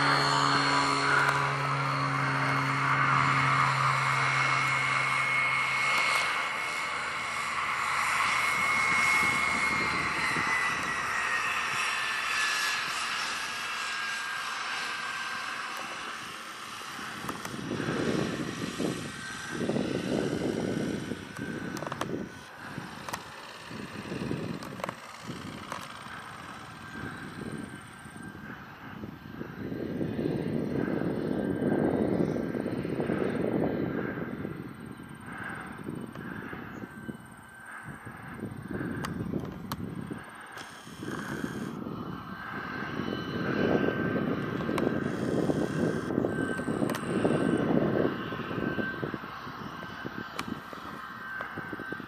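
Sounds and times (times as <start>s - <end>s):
turboprop turbine whine: 0.0s - 52.0s
uneven rumbling surges: 0.0s - 52.0s.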